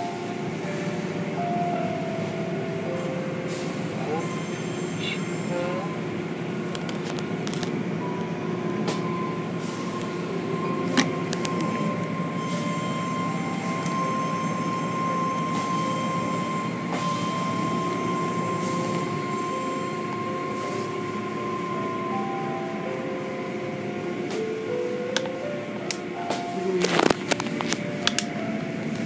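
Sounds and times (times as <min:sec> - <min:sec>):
steady high tone: 0:00.0 - 0:29.0.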